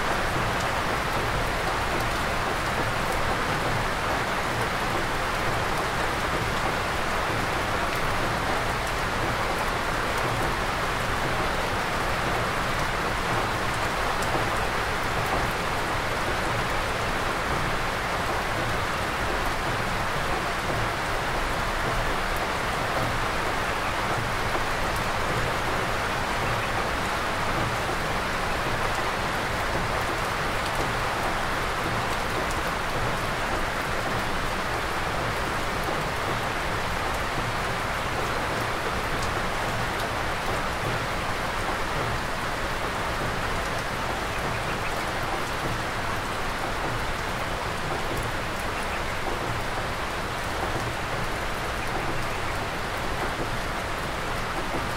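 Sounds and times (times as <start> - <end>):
rain falling on forest: 0.0 - 54.9.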